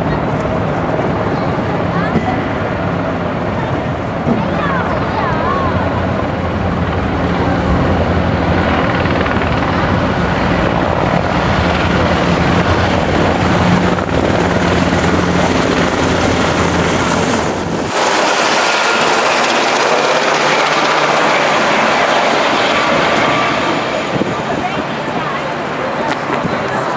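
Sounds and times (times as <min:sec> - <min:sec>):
helicopters flying overhead: 0:00.0 - 0:26.9.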